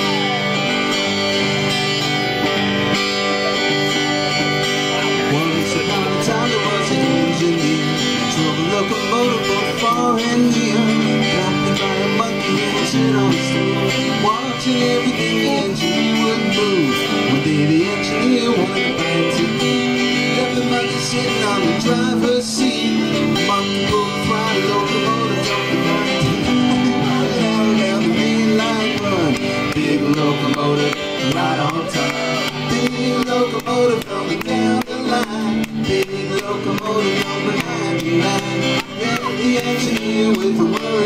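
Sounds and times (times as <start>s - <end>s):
acoustic guitars playing country tune: 0.0s - 41.0s.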